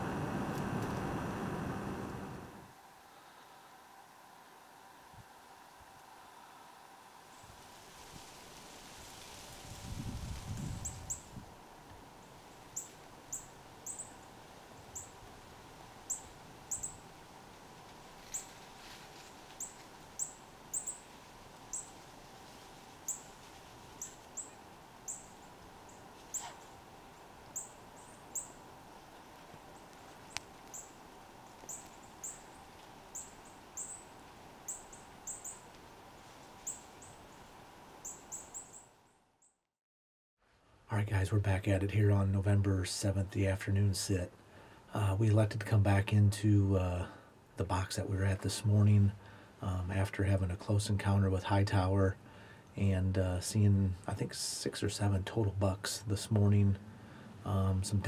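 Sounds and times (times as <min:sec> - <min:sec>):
faint steady hum: 0:00.0 - 0:39.5, 0:40.4 - 0:58.0.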